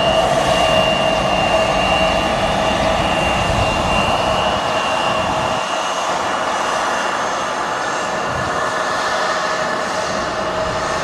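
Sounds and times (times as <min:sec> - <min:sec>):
jet engines whining and roaring: 0:00.0 - 0:11.0.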